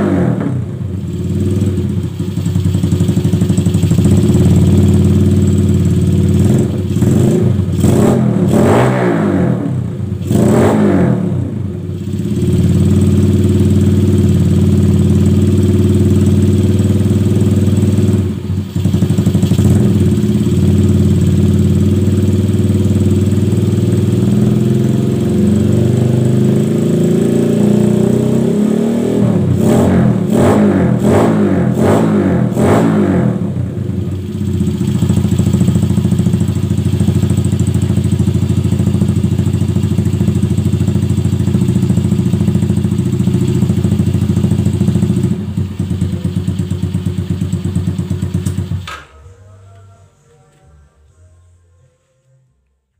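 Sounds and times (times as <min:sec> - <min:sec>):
motorcycle engine revving: 0:00.0 - 0:49.6.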